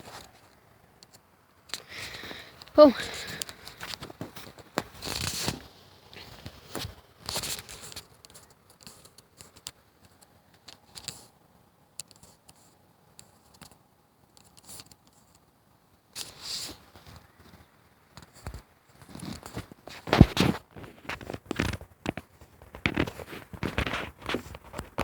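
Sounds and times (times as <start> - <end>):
rustling and scraping: 0.0 - 11.4, 16.2 - 25.0.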